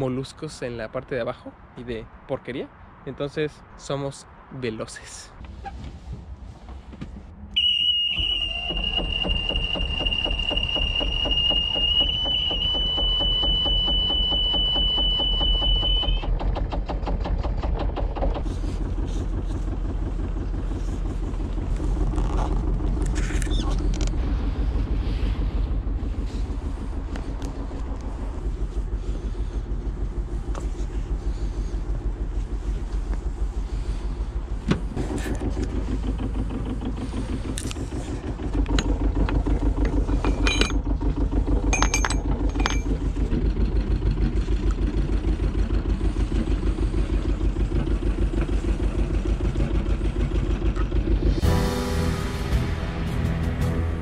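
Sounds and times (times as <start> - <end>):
boat engine running: 7.6 - 53.0.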